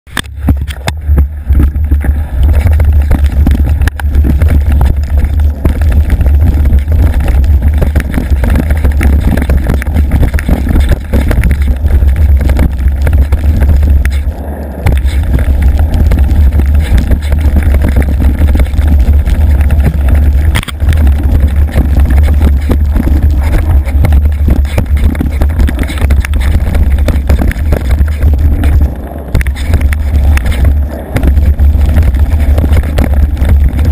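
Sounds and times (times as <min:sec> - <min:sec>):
bike rattling on trail: 0:00.1 - 0:33.9
distorted wind rumble: 0:00.1 - 0:33.9.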